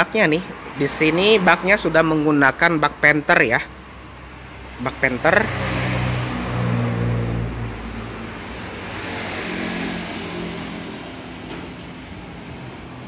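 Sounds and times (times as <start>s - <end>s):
passing traffic engine hum: 0.0s - 13.0s.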